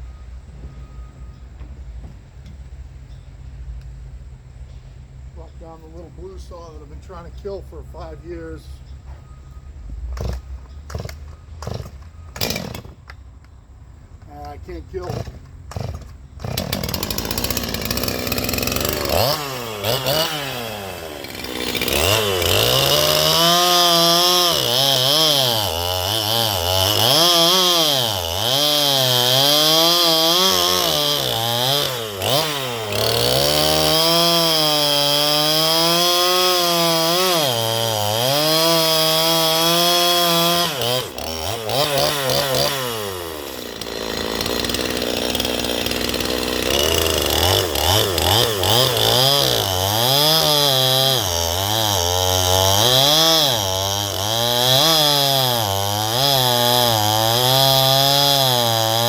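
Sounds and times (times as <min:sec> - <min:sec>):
chainsaw revving: 0:10.2 - 0:13.0, 0:14.2 - 0:59.0.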